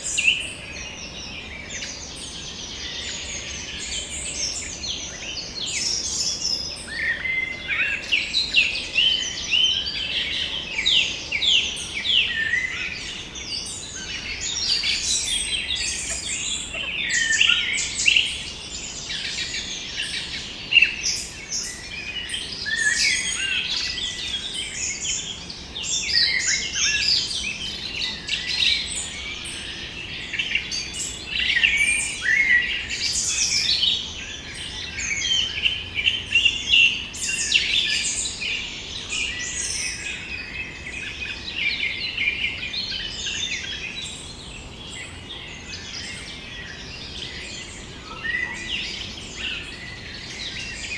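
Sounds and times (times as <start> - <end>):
songbirds chirping and singing: 0.0 - 50.9.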